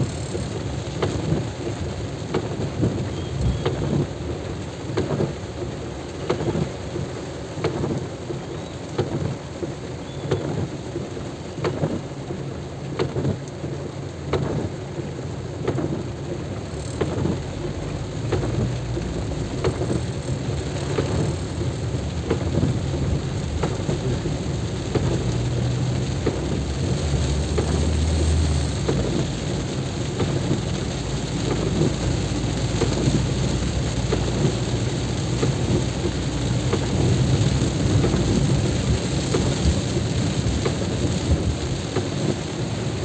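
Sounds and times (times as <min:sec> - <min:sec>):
rain pouring: 0:00.0 - 0:43.0.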